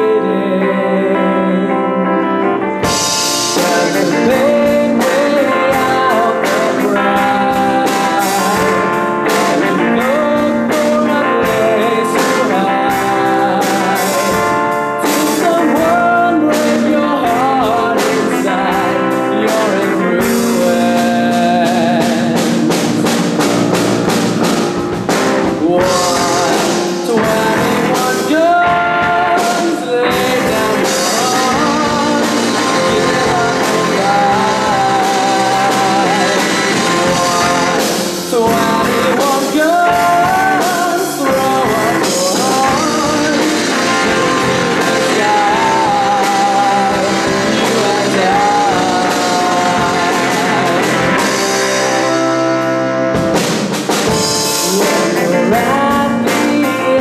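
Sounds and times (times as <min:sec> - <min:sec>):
boy singing: 0:00.0 - 0:24.0, 0:25.3 - 0:52.4, 0:54.1 - 0:57.0
rock band playing: 0:00.0 - 0:57.0.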